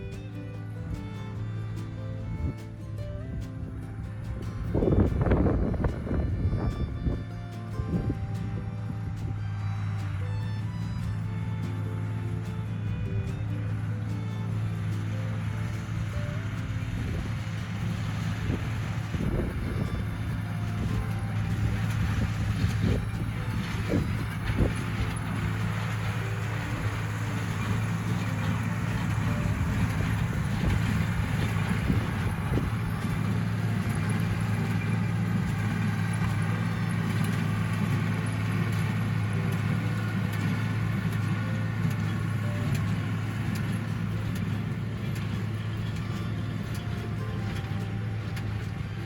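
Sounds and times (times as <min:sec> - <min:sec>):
tractor engine droning: 0:00.0 - 0:49.0.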